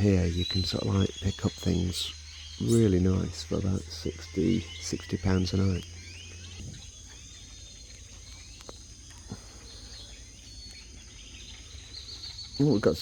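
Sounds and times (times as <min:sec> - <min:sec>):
bird chirps: 0:00.0 - 0:13.0
high-pitched insect drone: 0:00.0 - 0:13.0.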